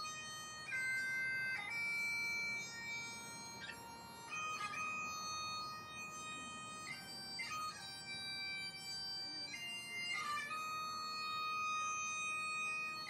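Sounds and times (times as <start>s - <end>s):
bagpipes playing slow melody: 0.0s - 13.0s.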